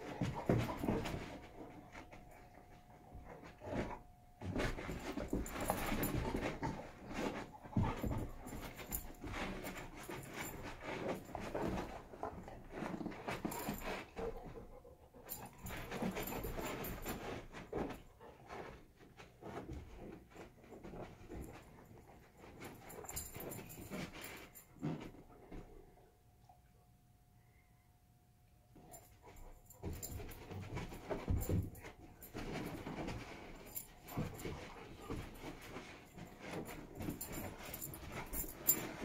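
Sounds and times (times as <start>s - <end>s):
dogs scuffling on carpet: 0.0s - 14.7s, 15.3s - 25.7s, 28.8s - 39.0s.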